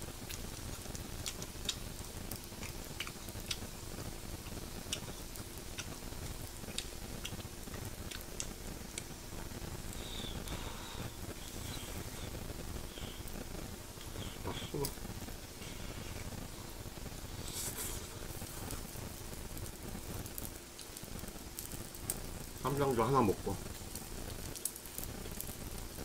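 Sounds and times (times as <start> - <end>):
fat popping and crackling: 0.0 - 26.0
pork sizzling on grill pan: 0.0 - 26.0.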